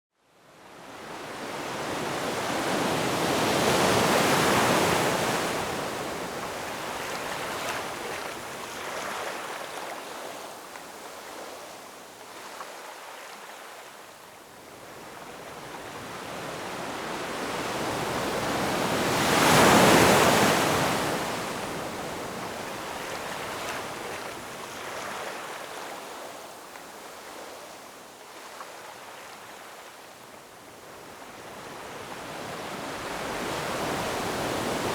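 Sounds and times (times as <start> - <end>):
ocean waves breaking on shore: 0.5 - 34.9.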